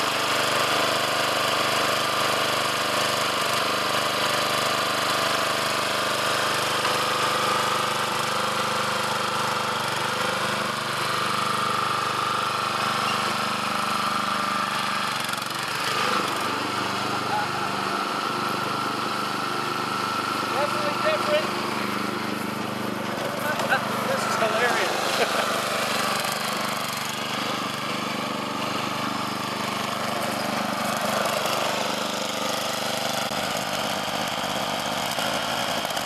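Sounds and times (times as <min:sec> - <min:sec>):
small gasoline engine running: 0:00.0 - 0:36.0.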